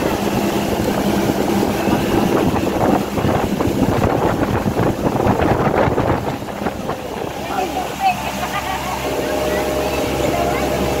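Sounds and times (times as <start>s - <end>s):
motorboat engine humming: 0.0s - 11.0s
wind buffeting microphone: 0.0s - 11.0s.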